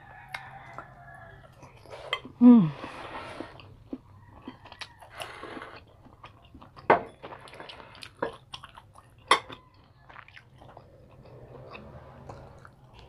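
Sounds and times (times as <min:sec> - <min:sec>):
chewing: 0:00.1 - 0:13.0.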